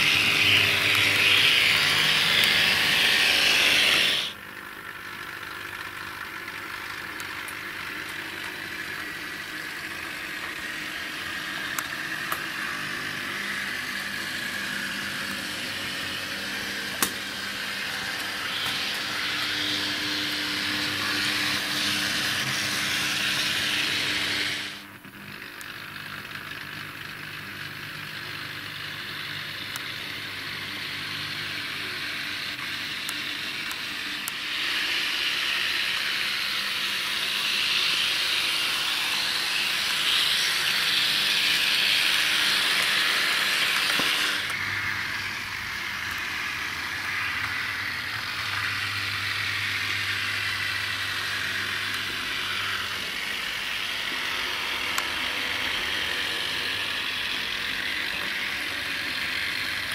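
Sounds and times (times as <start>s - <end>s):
small electric motors whirring: 0.0s - 59.9s.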